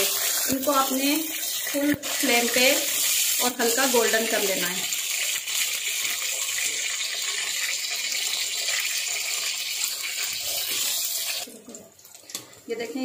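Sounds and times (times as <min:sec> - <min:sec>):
slices sizzling in hot oil: 0:00.0 - 0:13.0.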